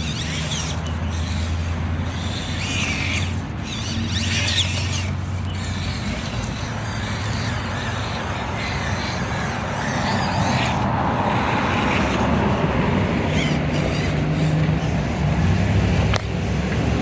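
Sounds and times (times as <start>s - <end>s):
toy car electric motor and gears: 0.0s - 17.0s.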